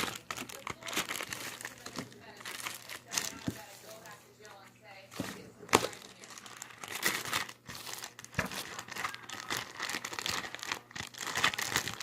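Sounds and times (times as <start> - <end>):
material crinkling and crackling: 0.0 - 12.0.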